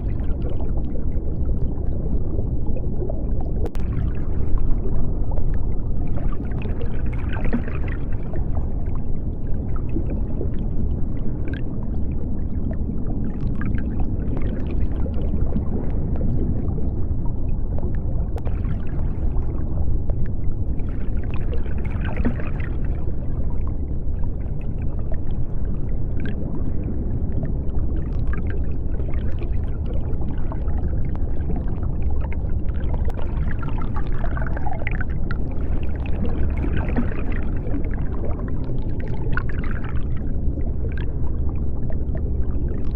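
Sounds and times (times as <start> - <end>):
bubbling: 0.0 - 42.9
deep underwater rumble: 0.0 - 42.9.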